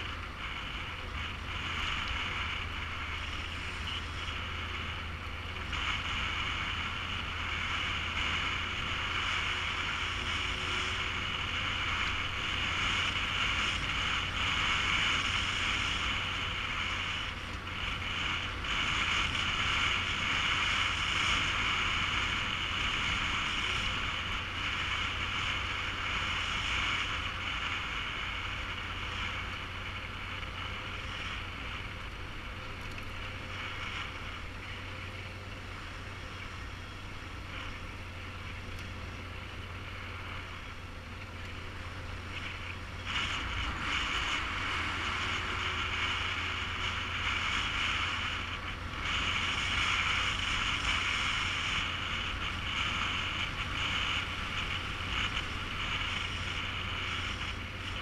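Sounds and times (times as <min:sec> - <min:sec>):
motorcycle engine cruising: 0:00.0 - 0:58.0
wind noise on microphone: 0:00.0 - 0:58.0.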